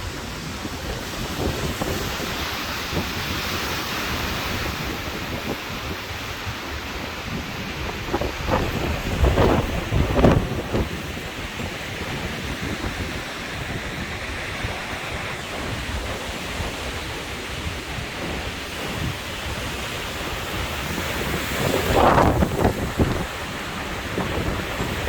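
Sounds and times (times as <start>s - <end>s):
hurricane wind rushing: 0.0s - 25.0s
wind buffeting microphone: 0.0s - 25.0s.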